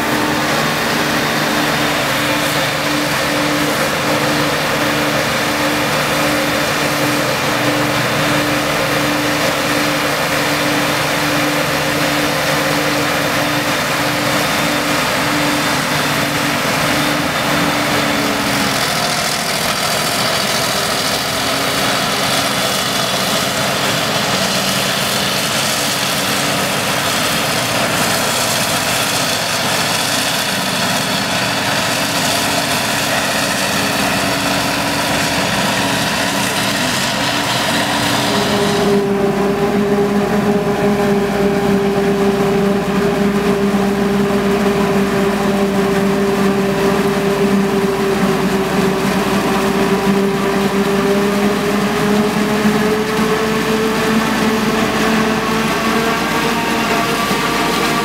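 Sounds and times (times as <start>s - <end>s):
harvester engine drone: 0.0s - 58.0s.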